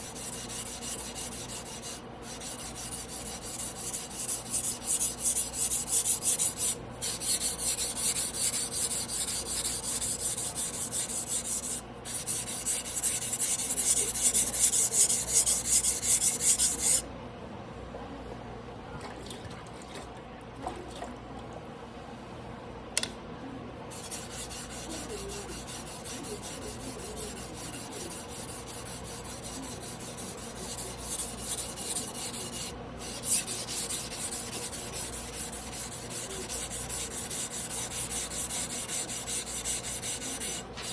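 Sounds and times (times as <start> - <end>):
blade scraping on whetstone: 0.0 - 17.0, 23.9 - 40.9.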